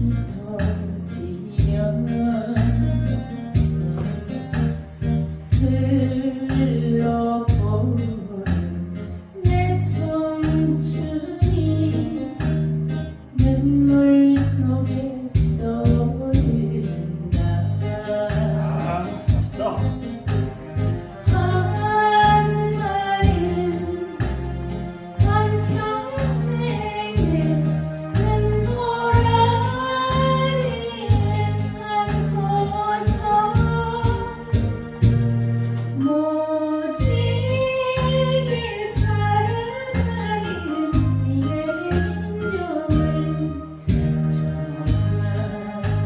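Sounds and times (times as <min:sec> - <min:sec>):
woman singing slow song: 0:00.0 - 0:03.5, 0:05.5 - 0:19.3, 0:21.2 - 0:24.5, 0:25.2 - 0:35.0, 0:36.0 - 0:46.0
backing track with bass line: 0:00.0 - 0:46.0.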